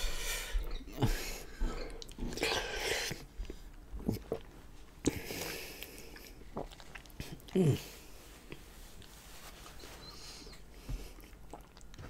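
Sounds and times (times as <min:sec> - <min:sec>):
wet chewing and smacking: 0:00.6 - 0:09.2, 0:10.0 - 0:12.0.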